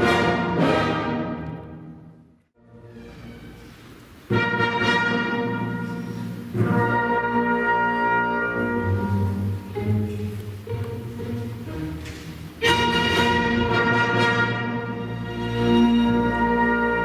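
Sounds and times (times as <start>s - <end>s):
orchestra playing classical music: 0.0s - 17.0s.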